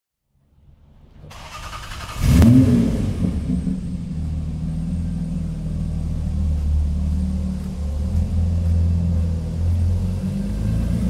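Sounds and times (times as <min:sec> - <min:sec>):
car engine revving: 0:01.0 - 0:11.0.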